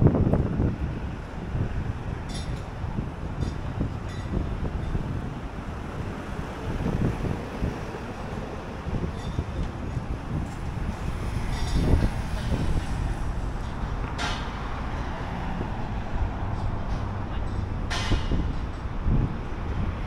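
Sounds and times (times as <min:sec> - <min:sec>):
rumble of passing vehicles: 0:00.0 - 0:20.0.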